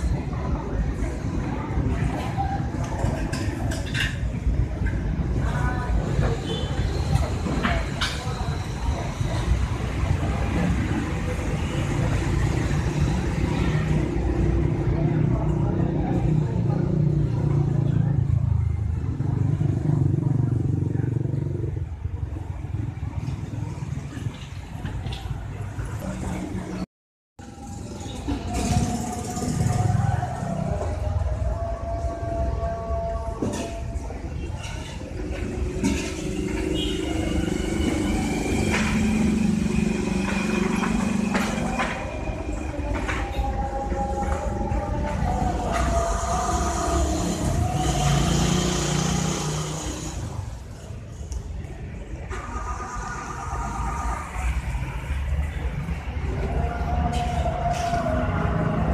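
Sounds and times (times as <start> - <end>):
vehicle engine hum and whine: 0.0 - 58.9.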